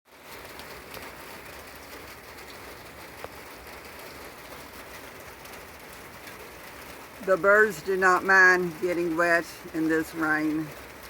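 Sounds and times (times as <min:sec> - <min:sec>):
steady rain falling: 0:00.1 - 0:11.0.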